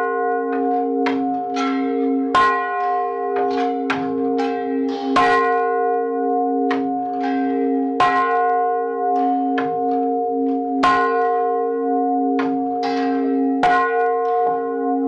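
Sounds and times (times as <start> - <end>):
church bell ringing: 0.0 - 15.0.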